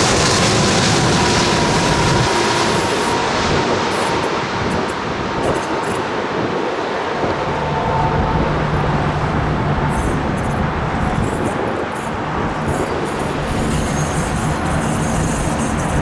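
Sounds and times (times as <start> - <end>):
faint engine whine: 0.0 - 16.0
jet engines roaring: 0.0 - 16.0.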